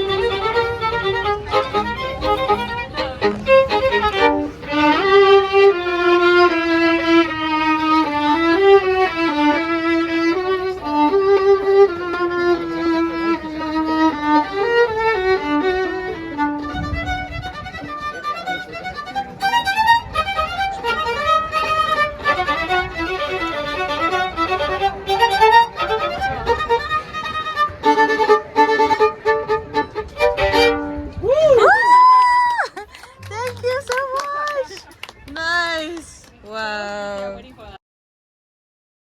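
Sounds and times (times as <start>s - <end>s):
violin melody: 0.0s - 37.4s.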